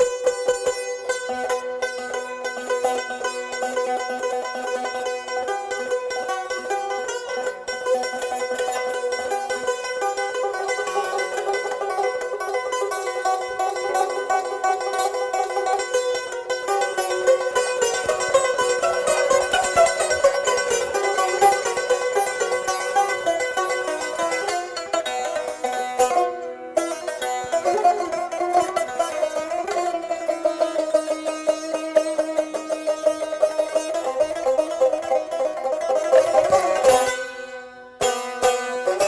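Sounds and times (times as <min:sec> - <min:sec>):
plucked lute melody: 0:00.0 - 0:39.0.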